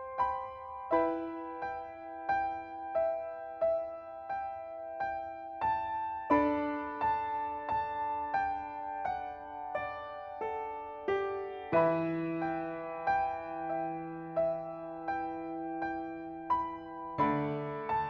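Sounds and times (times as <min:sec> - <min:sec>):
slow soft piano music: 0:00.0 - 0:18.0.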